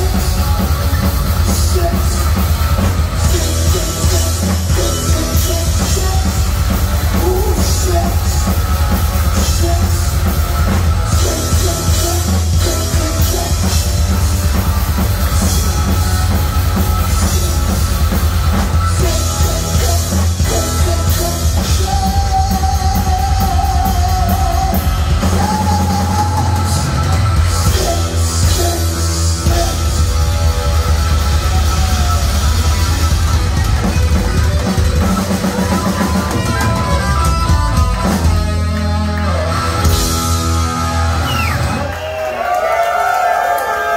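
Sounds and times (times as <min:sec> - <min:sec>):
distorted electric guitar: 0:00.0 - 0:41.9
bass guitar: 0:00.0 - 0:42.3
drum kit: 0:00.0 - 0:43.5.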